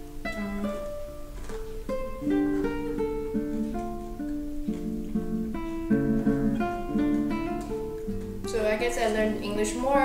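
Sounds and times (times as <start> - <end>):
acoustic guitar melody: 0.0 - 10.0.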